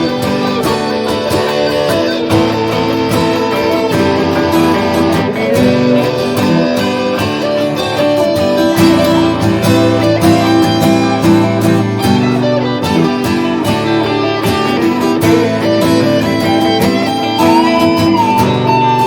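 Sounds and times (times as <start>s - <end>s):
fiddle playing: 0.0s - 19.0s
strummed guitars: 0.0s - 19.0s.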